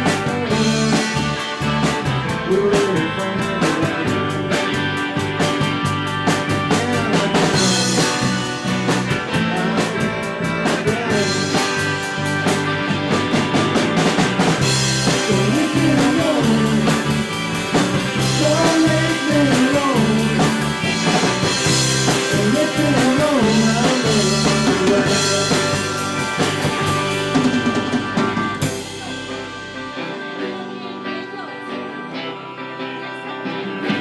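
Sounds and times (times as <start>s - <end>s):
quiet electric guitar: 0.0s - 34.0s
rock band playing: 0.0s - 34.0s.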